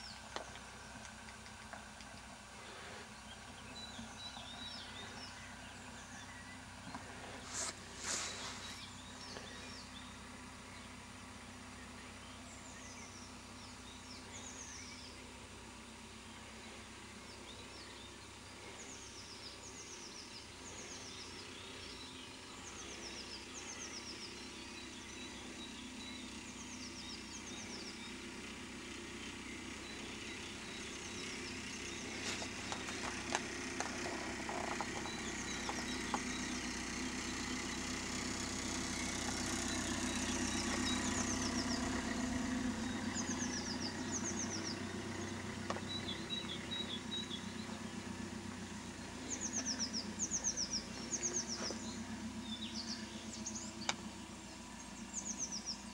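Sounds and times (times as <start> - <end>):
car engine: 0.0 - 55.9.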